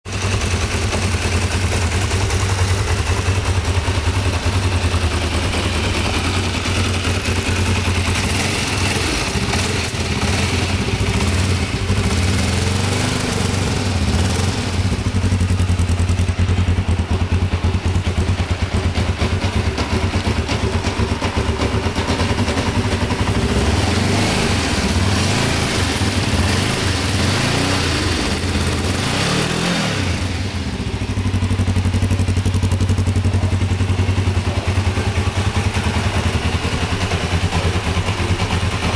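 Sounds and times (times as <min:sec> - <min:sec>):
motorcycle engine idling: 0:00.1 - 0:38.9.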